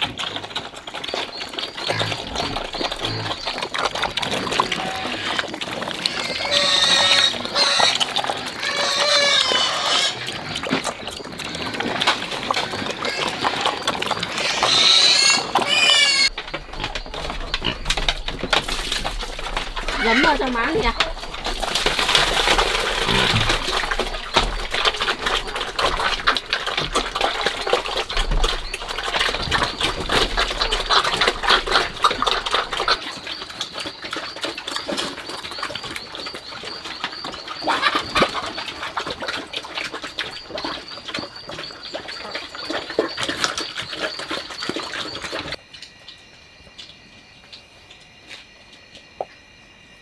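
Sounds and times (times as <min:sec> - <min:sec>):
pigs chomping and smacking: 0:00.0 - 0:49.4
crickets chirping: 0:01.0 - 0:50.0.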